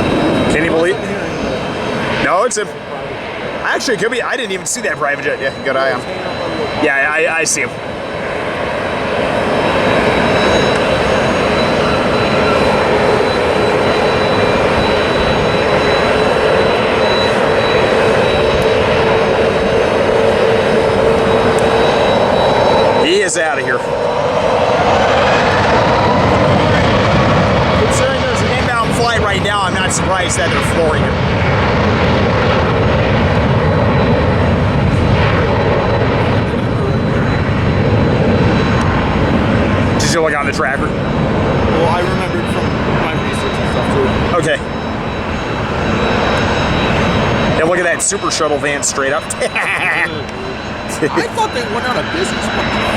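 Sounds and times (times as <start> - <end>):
jet aircraft taking off: 0.0 - 52.9.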